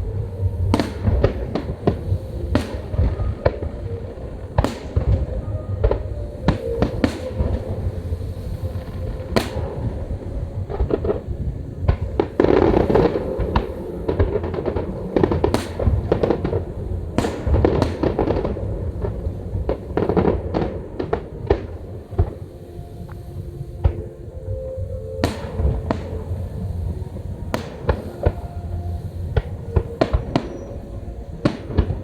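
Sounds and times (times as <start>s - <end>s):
low rumble: 0.0s - 32.0s.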